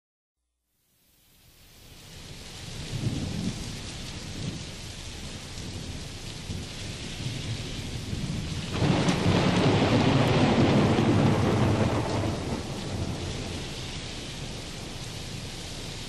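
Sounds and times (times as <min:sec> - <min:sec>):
steady rain: 0:00.8 - 0:16.0
low rolling thunder: 0:02.7 - 0:16.0.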